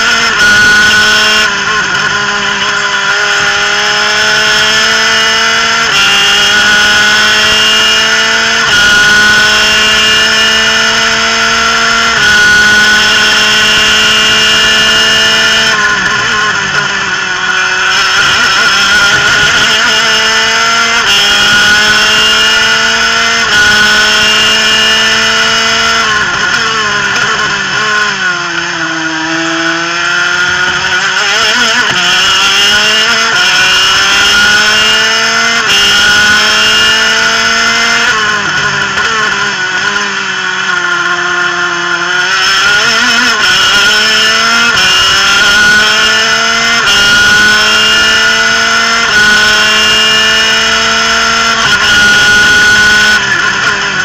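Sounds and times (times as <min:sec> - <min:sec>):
two-stroke kart engine at full throttle: 0:00.0 - 0:54.0.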